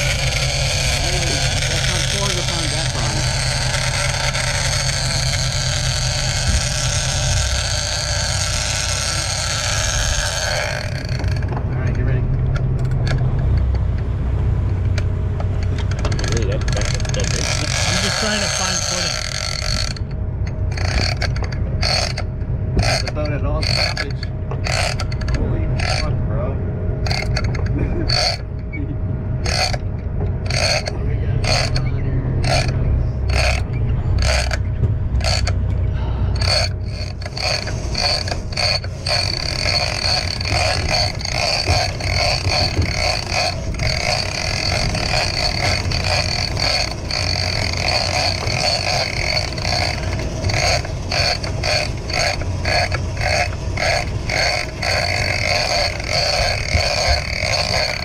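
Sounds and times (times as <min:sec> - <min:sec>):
fishing reel clicking and whining: 0:00.0 - 0:14.0, 0:14.7 - 0:26.2, 0:27.0 - 0:28.8, 0:29.4 - 0:35.6, 0:36.3 - 0:58.0
low rumble: 0:00.0 - 0:58.0.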